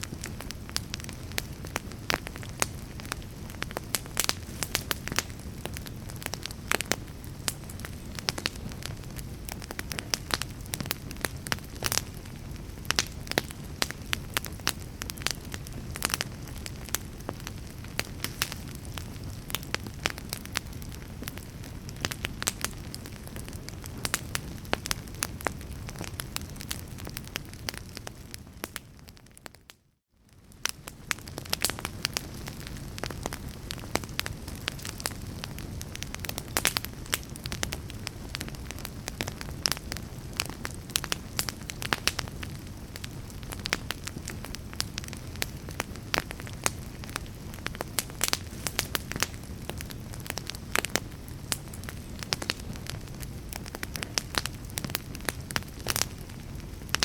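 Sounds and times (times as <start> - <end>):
fire popping and snapping: 0.0 - 57.0
low rumble of flames: 0.0 - 57.0.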